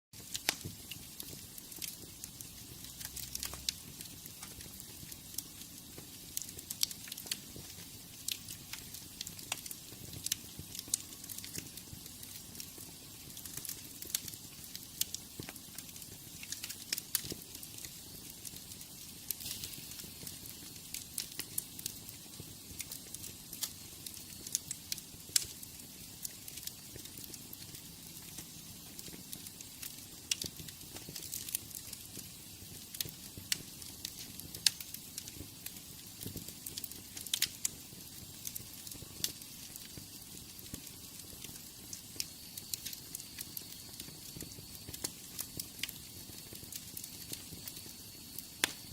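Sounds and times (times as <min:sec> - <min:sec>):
wood fire crackling: 0:00.2 - 0:48.9.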